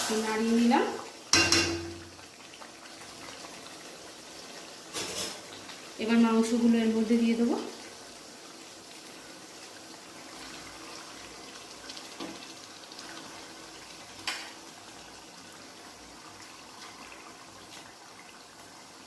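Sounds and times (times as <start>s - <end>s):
frying in oil sizzle: 0.0s - 19.0s.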